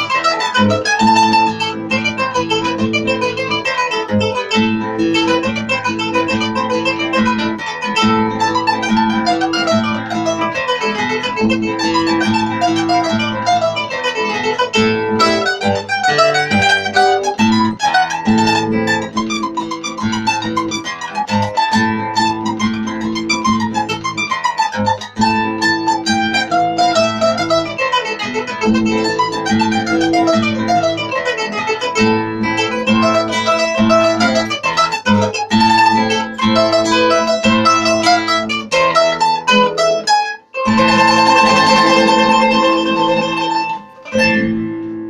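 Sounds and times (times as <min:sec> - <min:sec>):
guitar chords: 0:00.0 - 0:45.0
mandolin picked runs: 0:00.0 - 0:45.0.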